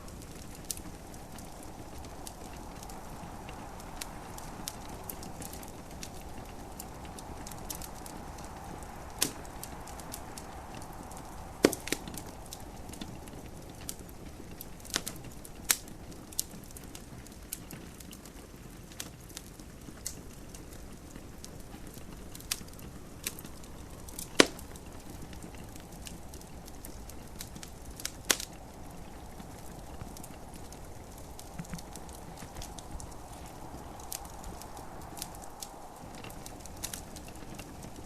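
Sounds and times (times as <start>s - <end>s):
gentle rain hiss: 0.0s - 38.0s
wood fire crackling: 0.0s - 38.0s.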